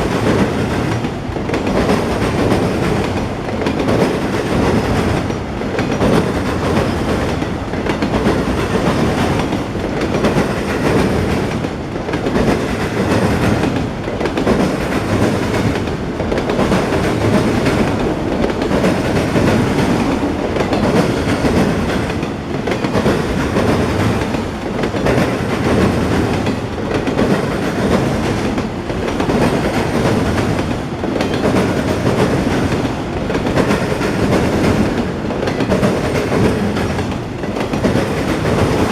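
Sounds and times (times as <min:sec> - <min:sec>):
freight train wheels rumbling on rails: 0:00.0 - 0:38.9.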